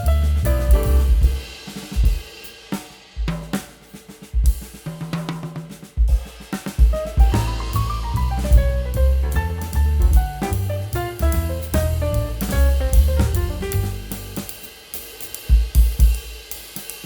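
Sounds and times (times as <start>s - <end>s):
music with drums and heavy bass: 0.0s - 17.0s.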